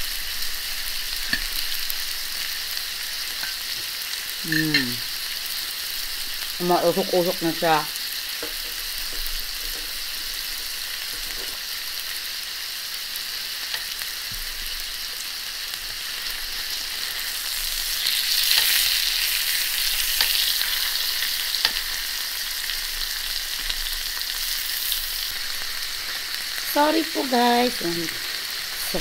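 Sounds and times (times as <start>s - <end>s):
steaks sizzling on a griddle: 0.0s - 29.0s.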